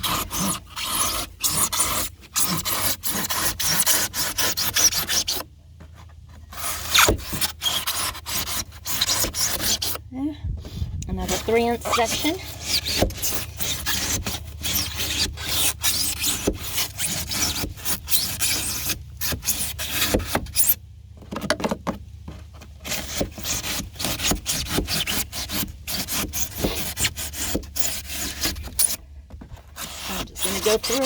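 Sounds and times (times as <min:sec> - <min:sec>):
knife sawing through foam: 0:00.0 - 0:05.5, 0:06.4 - 0:10.0, 0:11.2 - 0:20.8, 0:22.8 - 0:29.0, 0:29.7 - 0:31.0.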